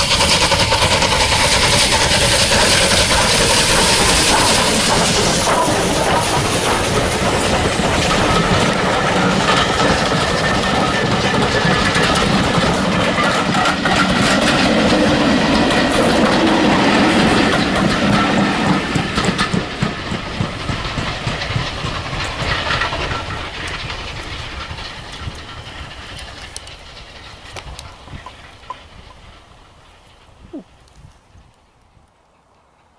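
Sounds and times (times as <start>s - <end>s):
steam hiss: 0.0s - 31.5s
train wheels clattering: 0.0s - 32.9s.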